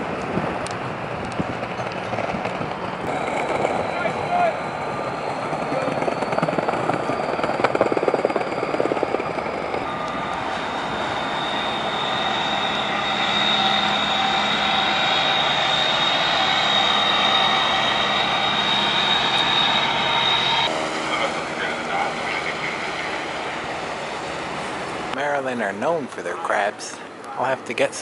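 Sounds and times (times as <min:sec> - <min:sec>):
diesel engine drone: 0:00.0 - 0:28.0
high thin whine: 0:02.9 - 0:27.1.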